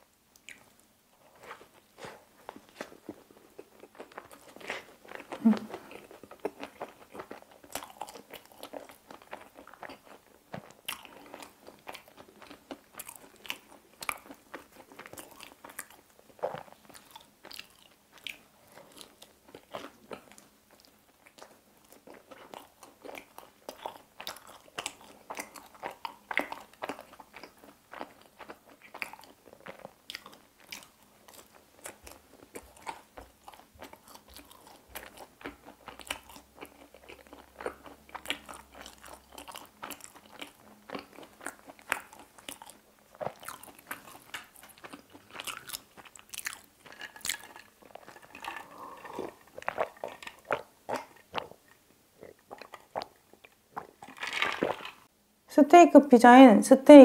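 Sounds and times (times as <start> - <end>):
person chewing crunchy pizza: 0.4 - 55.1.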